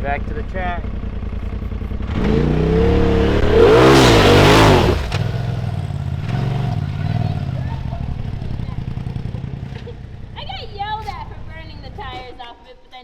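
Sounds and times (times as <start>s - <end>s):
vehicle engine revving: 0.0s - 12.3s.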